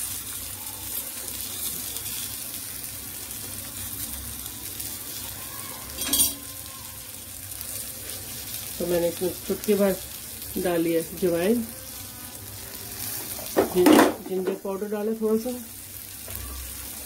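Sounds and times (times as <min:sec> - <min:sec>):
slices sizzling in a frying pan: 0:00.0 - 0:17.0.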